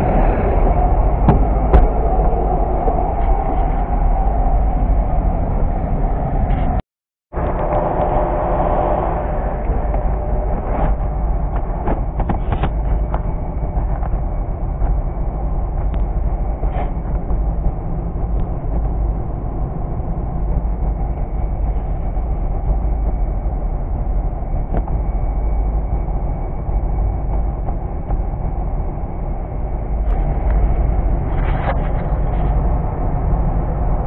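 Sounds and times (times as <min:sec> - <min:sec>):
bus engine rumbling: 0:00.0 - 0:06.8, 0:07.4 - 0:34.0.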